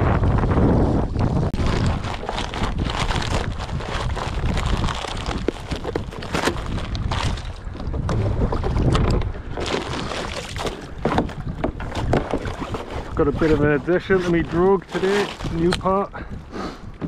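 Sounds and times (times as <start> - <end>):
wind buffeting microphone: 0.0 - 17.0
nylon crackling: 1.2 - 7.8, 8.8 - 16.1.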